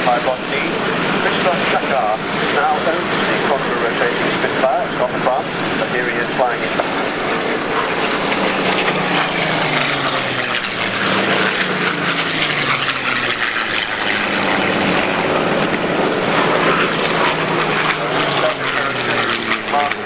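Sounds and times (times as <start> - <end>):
propeller plane flying low: 0.0 - 20.0.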